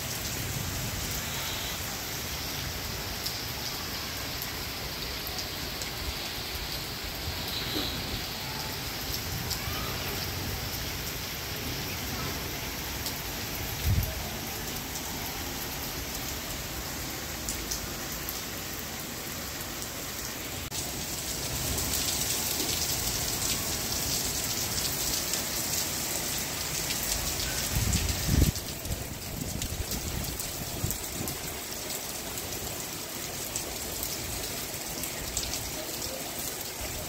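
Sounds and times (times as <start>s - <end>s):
rain falling on tiles: 0.0s - 37.0s.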